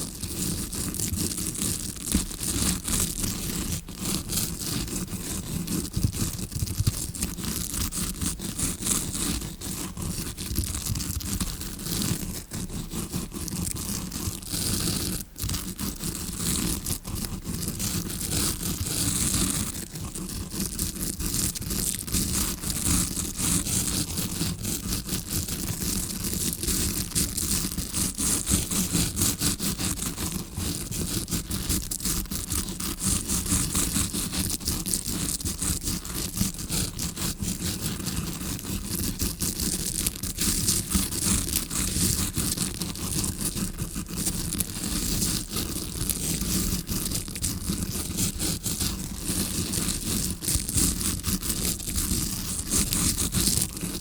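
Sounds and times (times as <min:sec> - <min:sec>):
bristles scratching in ear: 0:00.0 - 0:54.0.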